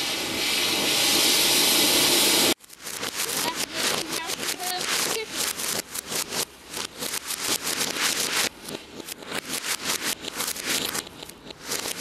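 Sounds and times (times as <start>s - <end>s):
reversed firework spurts: 0.0s - 12.0s.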